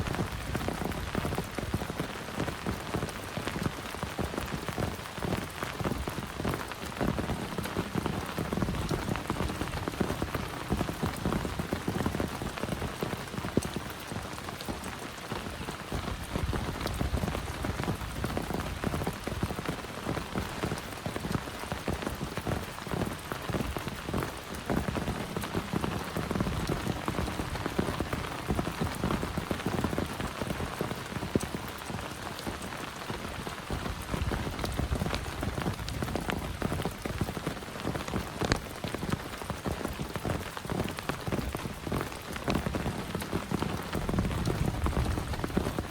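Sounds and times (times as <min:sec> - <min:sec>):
close raindrop hits: 0:00.0 - 0:45.9
heavy rain falling: 0:00.0 - 0:45.9.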